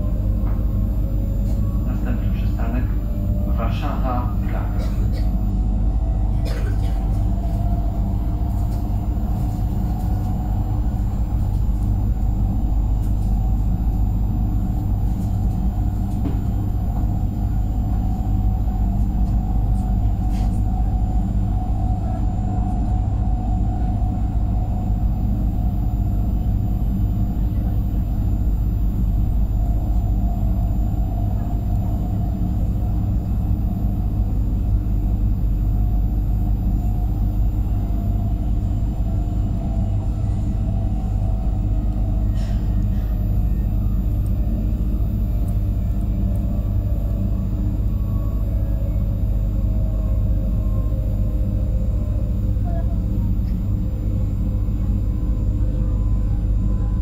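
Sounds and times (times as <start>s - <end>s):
electric train rumbling: 0.0s - 57.0s
mid-pitched train whine: 0.0s - 57.0s.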